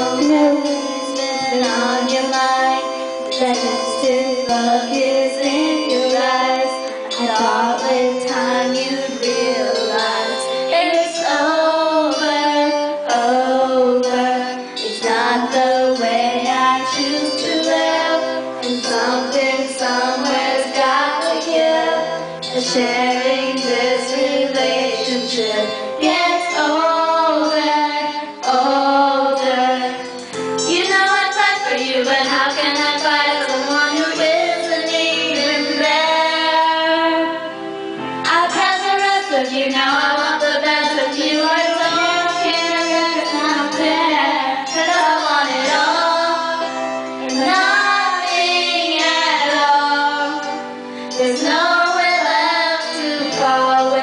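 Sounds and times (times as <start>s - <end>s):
woman singing karaoke: 0.0s - 37.6s, 38.2s - 54.0s
music backing track: 0.0s - 54.0s.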